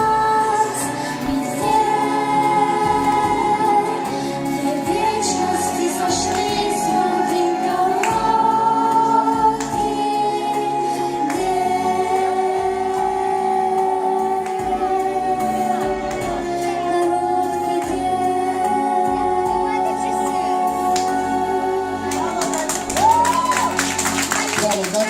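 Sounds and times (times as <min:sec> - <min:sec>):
instrumental backing: 0:00.0 - 0:25.0.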